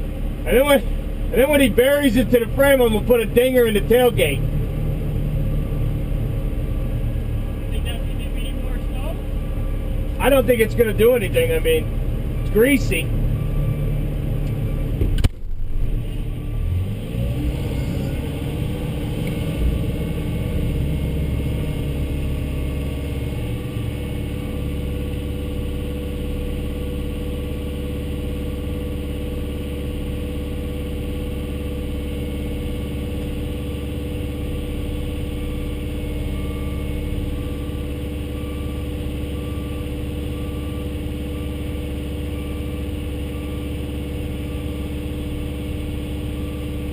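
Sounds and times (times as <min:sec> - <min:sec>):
diesel engine humming: 0:00.0 - 0:46.9.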